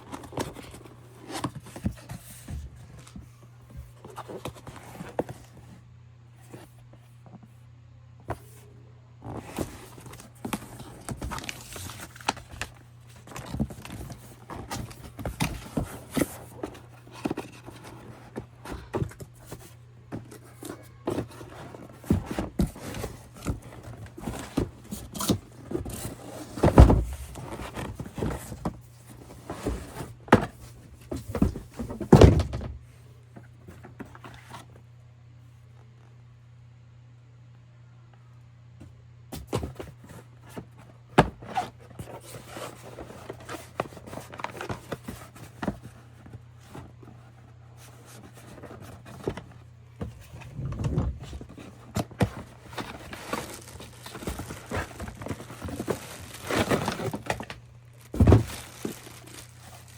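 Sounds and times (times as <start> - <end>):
box and packaging rustling: 0.0 - 5.8, 8.3 - 32.8, 39.4 - 59.9
faint low hum: 0.0 - 59.9.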